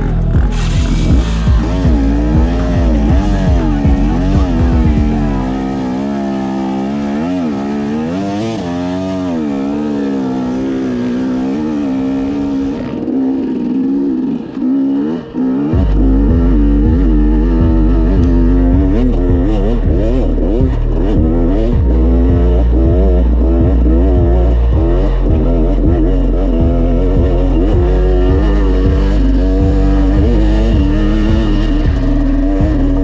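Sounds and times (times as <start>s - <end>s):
heavy low pulsing: 0.0s - 33.0s
motorcycle engine revving: 0.0s - 33.0s.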